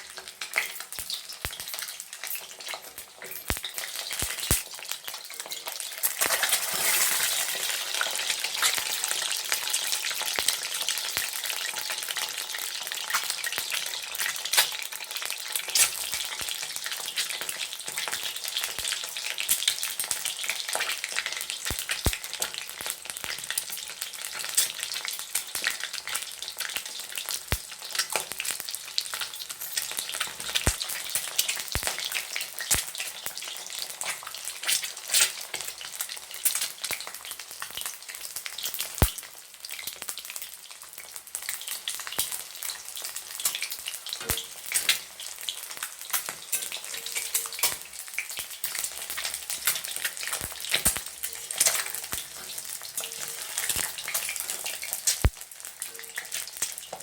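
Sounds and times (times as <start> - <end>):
eggs sizzling in hot oil: 0.0 - 57.0.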